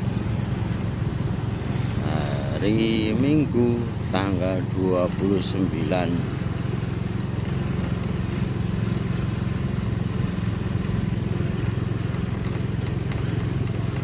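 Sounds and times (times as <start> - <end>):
motorcycle engine humming: 0.0 - 14.0.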